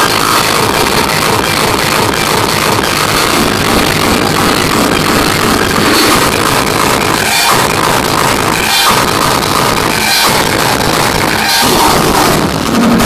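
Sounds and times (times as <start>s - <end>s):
electronic dance music: 0.0s - 13.0s.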